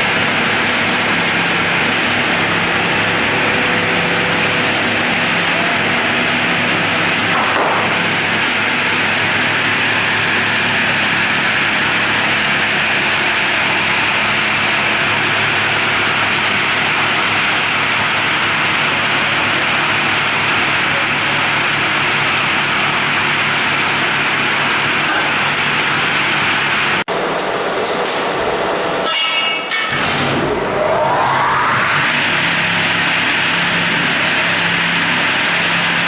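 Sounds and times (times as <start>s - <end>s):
circular saw machine humming: 0.0s - 29.1s, 30.0s - 36.0s.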